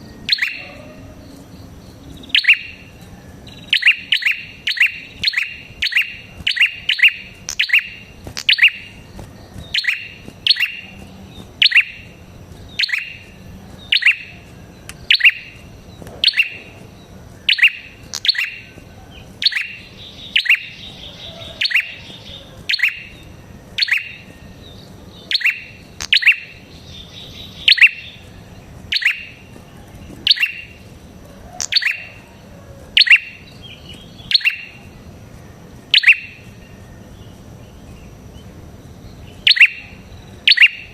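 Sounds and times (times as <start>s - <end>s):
bird sharp downward chip calls: 0.2s - 1.0s, 2.2s - 29.5s, 30.2s - 30.8s, 31.6s - 32.3s, 33.0s - 35.0s, 35.9s - 37.7s, 39.2s - 40.9s.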